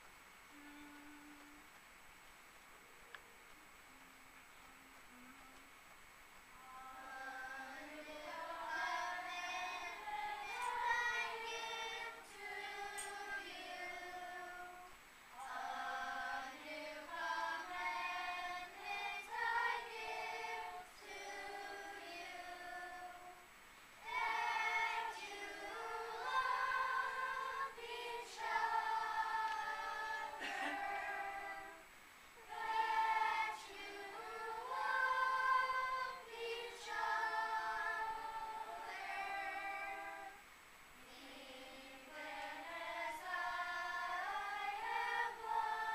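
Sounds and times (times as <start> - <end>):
children's choir singing: 0.0 - 1.6, 6.5 - 45.9.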